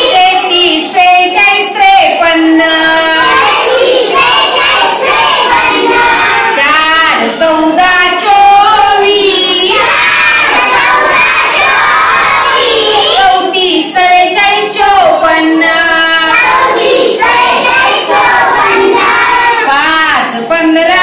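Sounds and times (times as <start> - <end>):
children singing in unison: 0.0 - 0.8, 2.6 - 13.6, 14.5 - 19.7.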